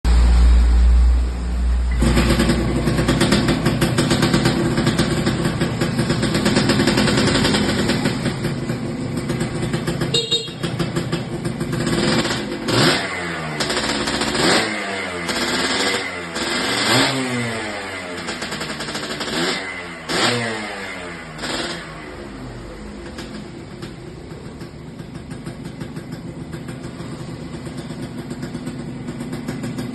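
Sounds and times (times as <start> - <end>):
vehicle engine revving: 0.1 - 29.9.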